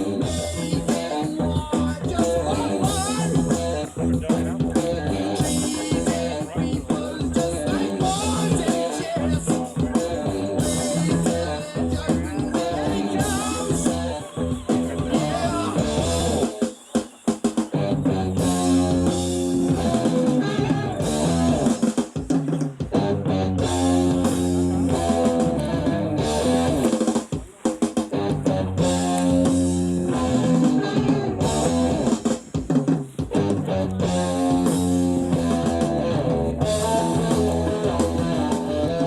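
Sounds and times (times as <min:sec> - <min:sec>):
heavy rock music: 0:00.0 - 0:39.0.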